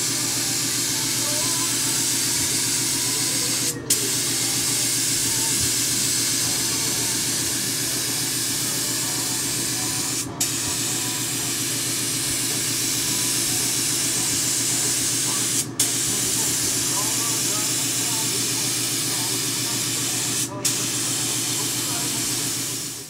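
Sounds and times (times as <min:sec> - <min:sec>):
spray gun hissing: 0:00.0 - 0:23.0.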